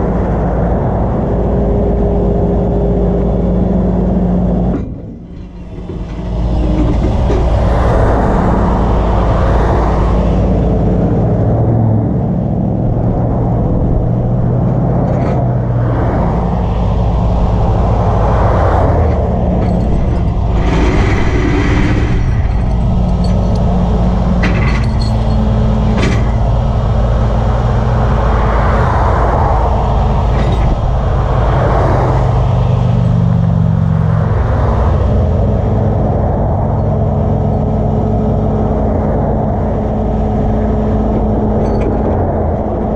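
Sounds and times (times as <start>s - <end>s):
highway traffic passing: 0.0s - 42.9s
steady low rumble: 0.0s - 42.9s.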